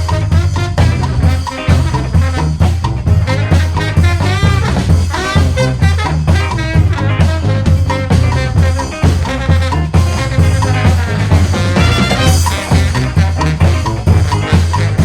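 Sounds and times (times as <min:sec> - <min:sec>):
brass band playing swing: 0:00.0 - 0:15.0.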